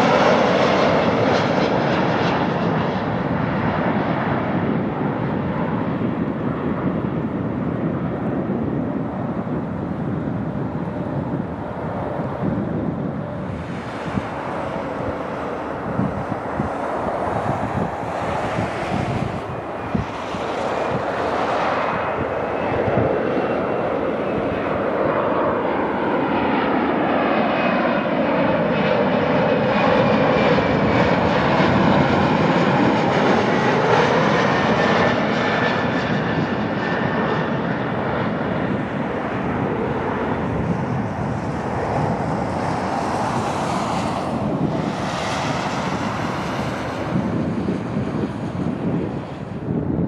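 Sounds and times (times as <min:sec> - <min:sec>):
jet engines roaring and whining: 0:00.0 - 0:50.0.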